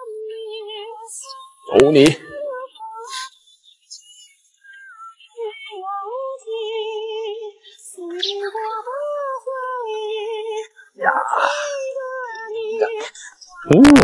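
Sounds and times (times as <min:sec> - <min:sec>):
female voice singing: 0:00.0 - 0:14.0.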